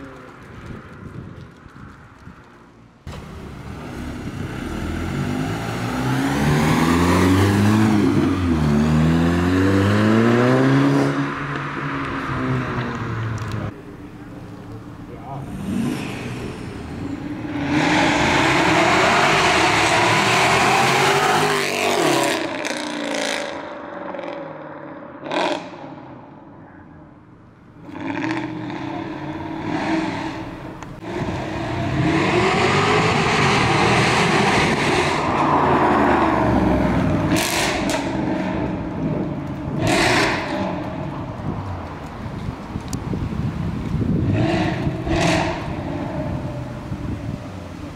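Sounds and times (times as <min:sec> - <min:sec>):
car engines revving: 0:03.0 - 0:47.9.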